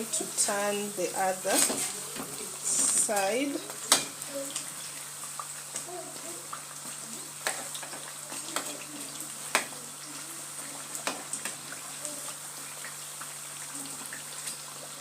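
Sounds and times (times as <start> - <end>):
deep-frying sizzle: 0.0 - 15.0.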